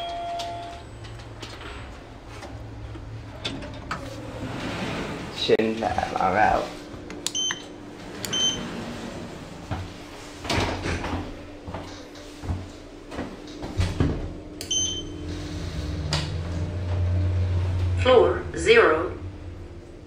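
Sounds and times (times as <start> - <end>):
lift doors knocking and rumbling: 0.0 - 6.3, 6.9 - 20.0
lift car humming: 0.0 - 20.0.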